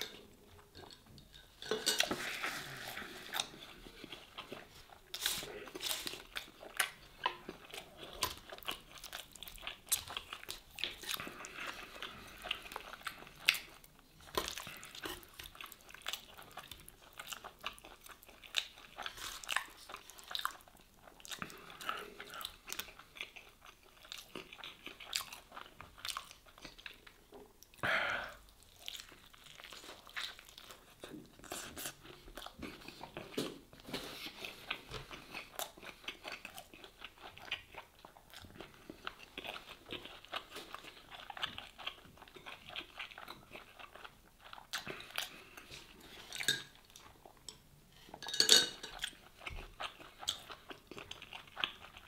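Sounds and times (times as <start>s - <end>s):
chewing and crunching food: 0.0s - 52.0s.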